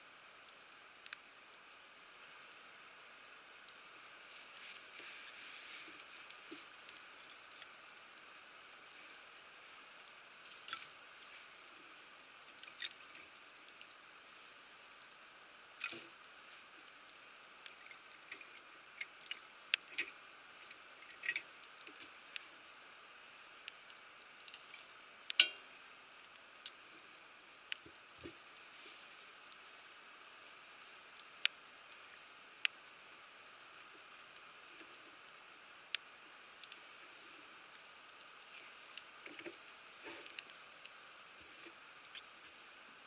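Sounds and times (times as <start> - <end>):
faint steady hiss: 0.0 - 43.0
wood fire crackling and popping: 0.3 - 2.7, 3.6 - 11.4, 12.3 - 28.7, 29.4 - 36.8, 37.7 - 42.8.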